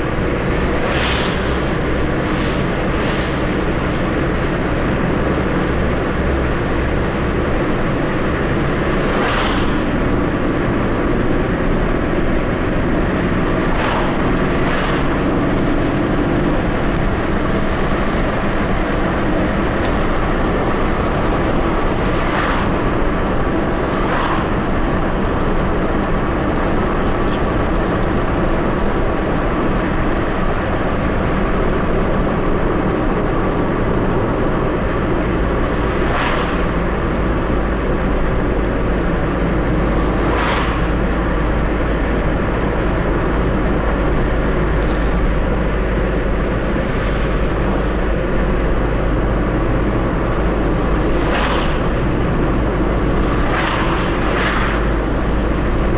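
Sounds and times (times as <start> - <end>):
car road and engine noise: 0.0 - 55.9
passing cars whooshing: 0.0 - 55.9.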